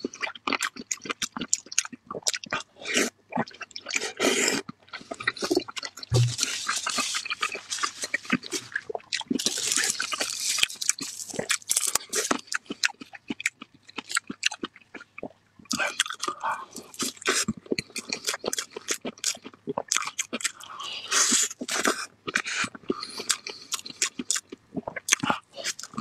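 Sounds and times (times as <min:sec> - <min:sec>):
wet chewing smacks and clicks: 0:00.0 - 0:02.7, 0:03.3 - 0:20.6, 0:21.2 - 0:26.0.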